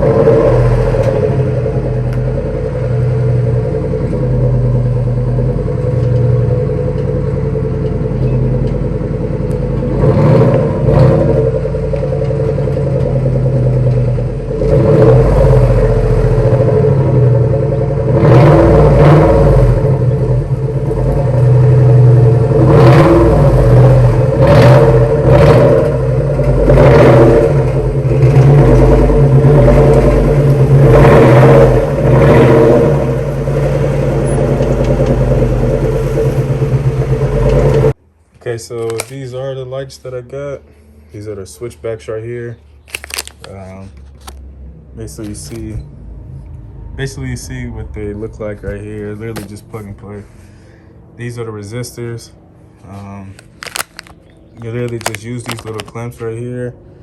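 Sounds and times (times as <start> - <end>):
car engine revving: 0.0 - 38.0, 42.9 - 57.0.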